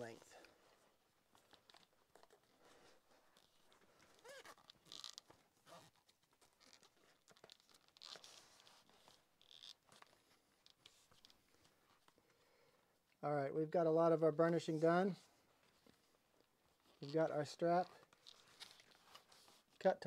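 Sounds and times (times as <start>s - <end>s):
leather sheath scuffs and creaks: 0.5s - 12.9s, 15.6s - 19.8s.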